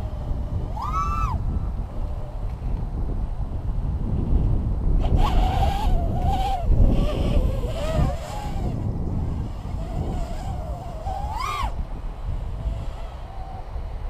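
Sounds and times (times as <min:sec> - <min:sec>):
drone propellers whining: 0:00.0 - 0:03.6, 0:05.0 - 0:14.0
wind rumbling on microphone: 0:00.0 - 0:14.0.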